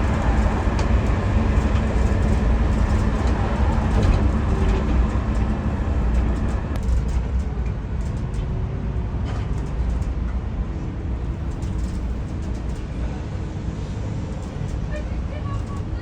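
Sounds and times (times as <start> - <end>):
coach engine and road rumble: 0.0 - 16.0.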